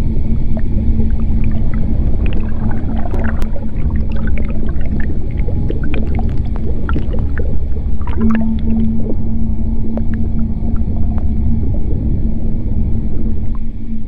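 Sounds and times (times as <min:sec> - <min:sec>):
deep steady rumble: 0:00.0 - 0:14.0.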